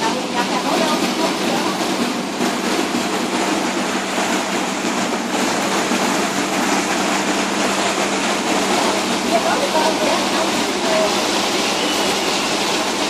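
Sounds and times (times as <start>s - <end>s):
water rushing past boat: 0.0s - 13.0s.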